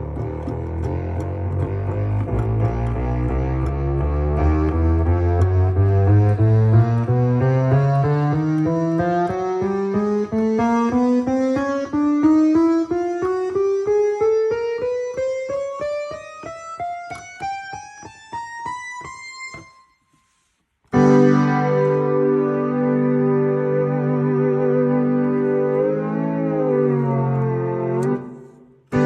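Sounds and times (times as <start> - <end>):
electric piano notes: 0.0 - 19.8, 20.9 - 29.0
loud keyboard chord: 0.0 - 19.8, 20.9 - 29.0.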